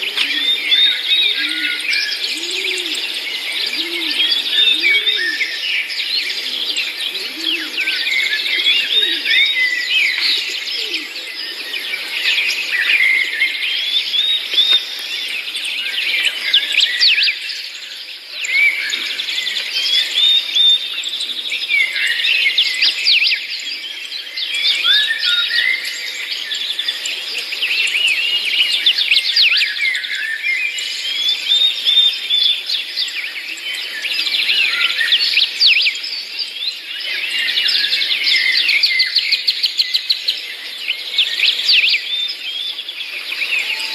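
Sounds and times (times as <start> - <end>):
birds chirping and twittering: 0.0 - 43.9.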